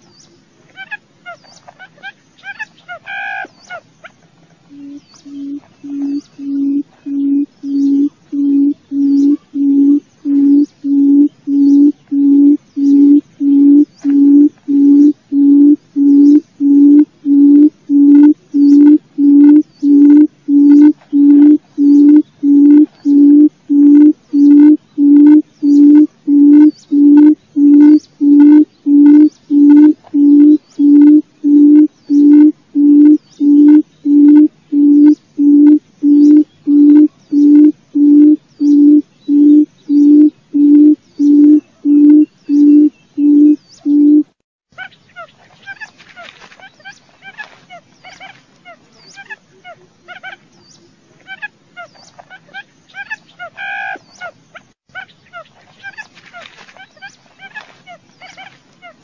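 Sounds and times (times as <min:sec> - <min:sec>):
quail low hooting call: 0:00.7 - 0:04.1, 0:04.7 - 0:50.4, 0:51.2 - 0:59.0.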